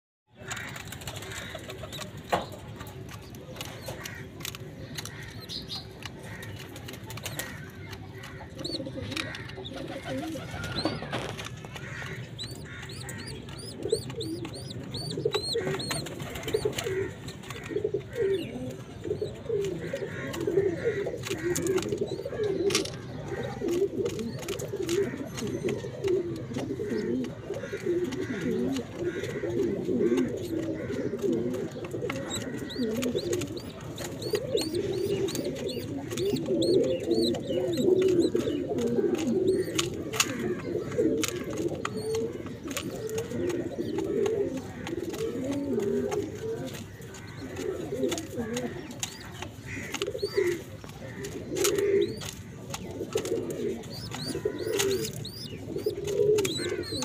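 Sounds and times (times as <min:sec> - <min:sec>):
pigeons cooing: 0:00.4 - 0:57.0.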